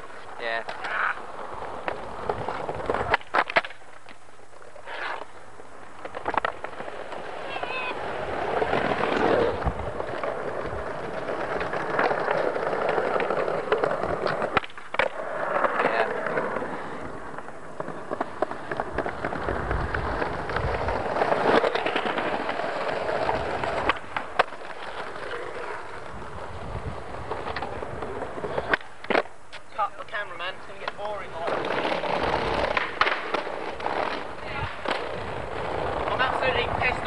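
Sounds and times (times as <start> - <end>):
skateboard wheels rolling on concrete: 0.0 - 37.0
skateboards clacking on ground: 0.0 - 37.0.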